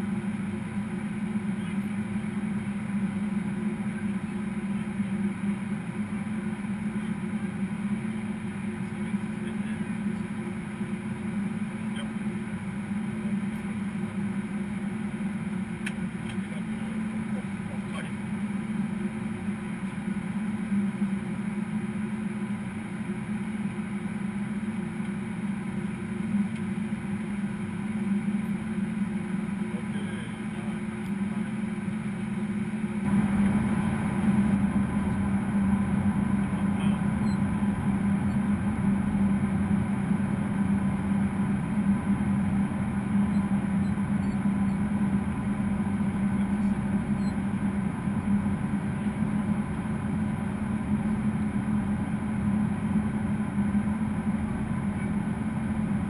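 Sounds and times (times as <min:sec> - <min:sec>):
constant low hum: 0:00.0 - 0:56.0.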